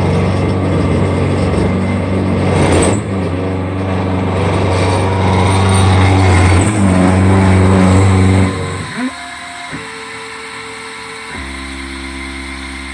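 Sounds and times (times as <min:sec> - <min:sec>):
milling machine chattering: 0:00.0 - 0:12.9.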